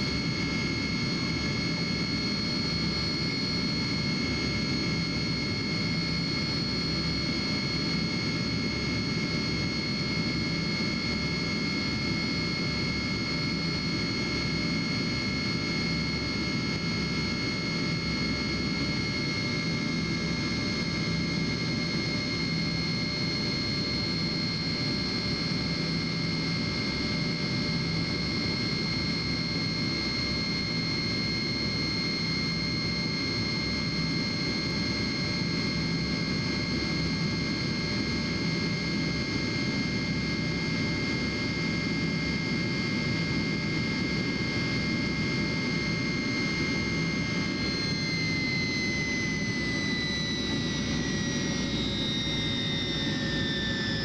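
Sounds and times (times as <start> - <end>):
high jet engine whine: 0.0 - 54.0.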